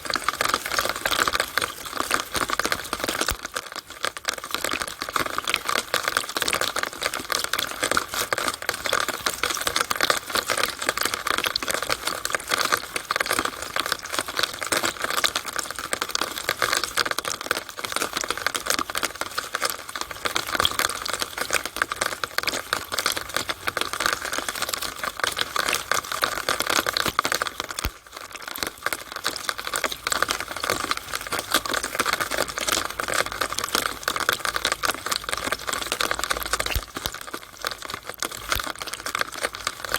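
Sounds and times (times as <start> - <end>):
rainwater dripping through downspout: 0.0 - 39.9.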